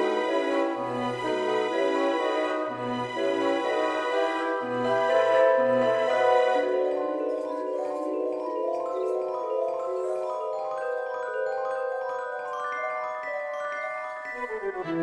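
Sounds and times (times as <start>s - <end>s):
bell-like mallet percussion music: 0.0s - 15.0s.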